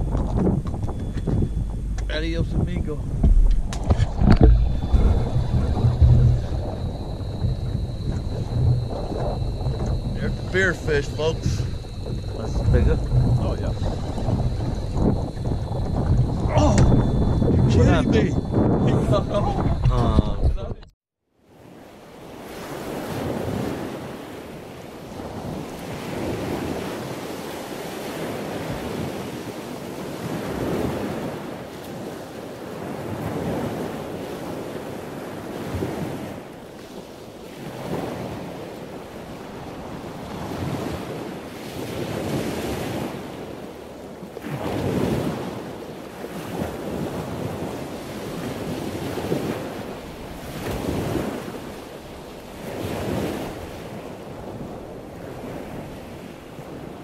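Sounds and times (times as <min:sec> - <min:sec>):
gusty wind buffeting microphone: 0:00.0 - 0:20.9, 0:21.6 - 0:57.0.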